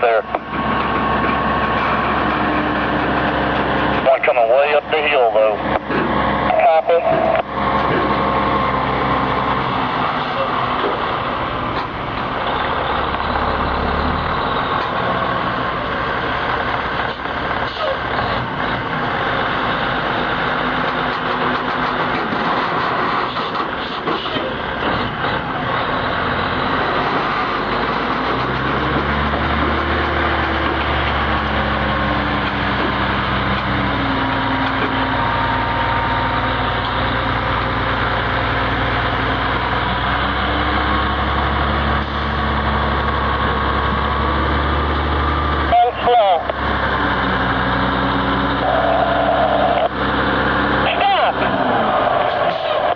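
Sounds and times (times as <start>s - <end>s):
heavy truck engine running: 0.0s - 52.9s
road noise: 0.0s - 52.9s.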